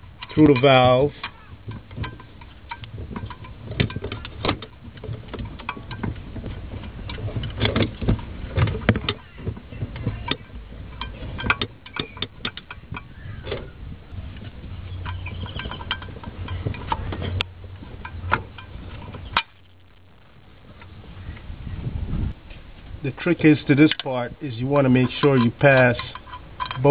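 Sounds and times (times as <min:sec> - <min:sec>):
low rumble: 0:01.4 - 0:25.2.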